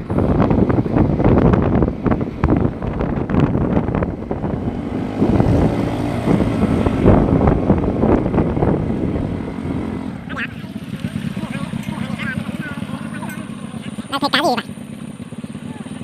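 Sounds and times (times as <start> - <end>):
wind buffeting microphone: 0.0 - 13.2
engine running: 0.0 - 16.0.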